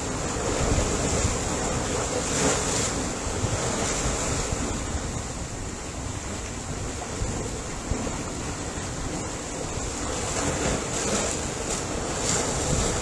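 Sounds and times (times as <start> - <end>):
ocean waves washing ashore: 0.0 - 13.0.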